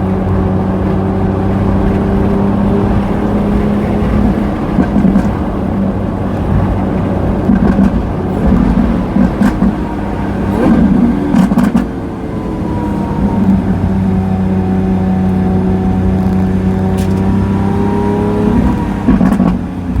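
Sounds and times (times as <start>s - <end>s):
exhaust pops: 0.0s - 14.5s, 15.2s - 20.0s
sports car engine: 0.0s - 20.0s.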